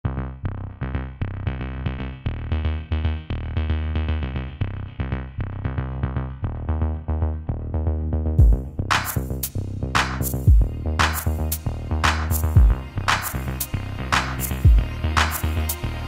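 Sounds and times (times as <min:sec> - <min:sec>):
music with heavy bass beat: 0:00.2 - 0:16.0.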